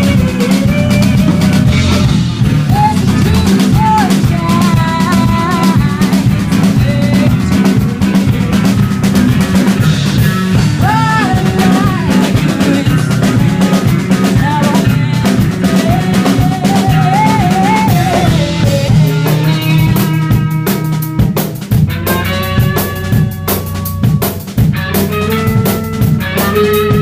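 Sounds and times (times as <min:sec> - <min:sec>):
drum kit beat: 0:00.0 - 0:27.0
live band playing: 0:00.0 - 0:27.0.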